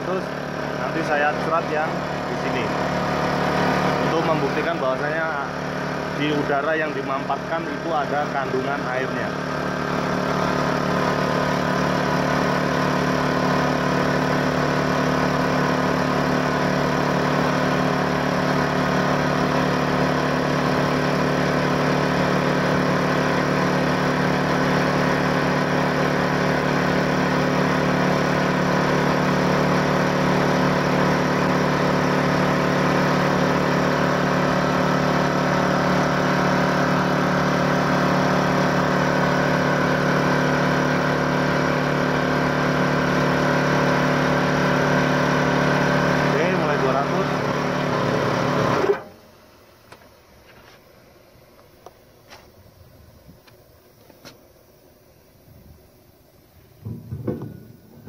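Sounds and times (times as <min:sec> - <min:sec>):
air compressor droning: 0:00.0 - 0:58.0.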